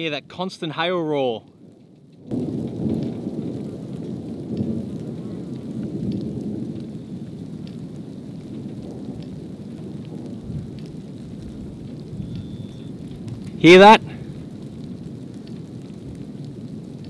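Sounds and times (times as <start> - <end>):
hail roar: 0.0 - 17.0.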